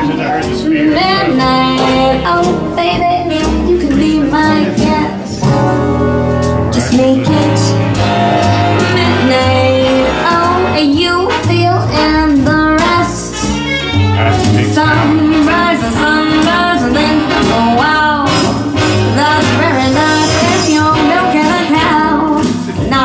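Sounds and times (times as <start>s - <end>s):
vocal music over speakers: 0.0s - 23.0s.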